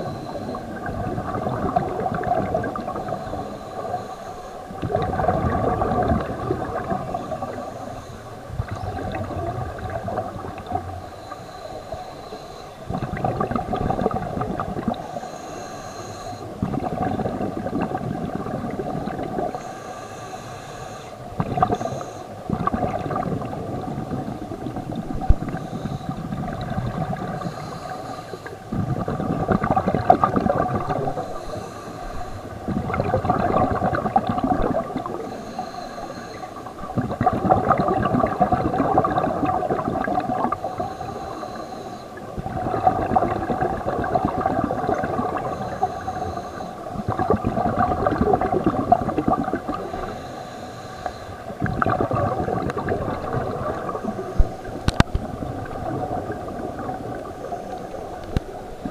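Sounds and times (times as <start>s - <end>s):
scuba regulator bubbling: 0.0s - 58.9s.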